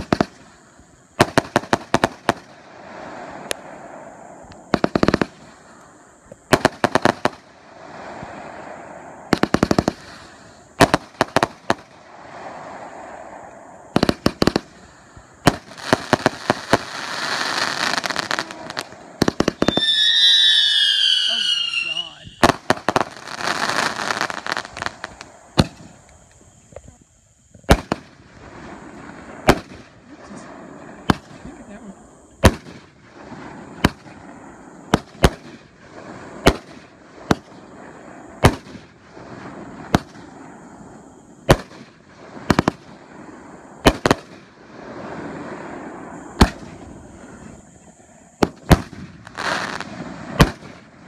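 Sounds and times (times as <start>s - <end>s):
firework bangs: 0.0s - 26.1s, 27.6s - 51.0s
fireworks crackling and fizzing: 0.0s - 51.0s.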